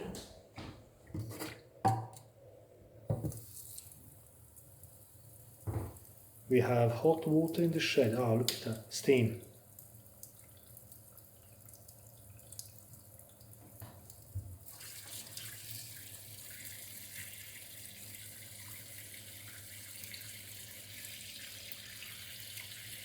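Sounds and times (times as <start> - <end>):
hot water running: 3.1 - 23.0.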